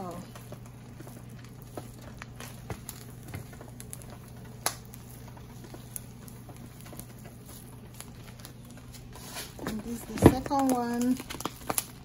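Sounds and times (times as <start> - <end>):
spoon and spatula stirring rice: 0.0 - 10.8
steady low hum: 0.0 - 12.0.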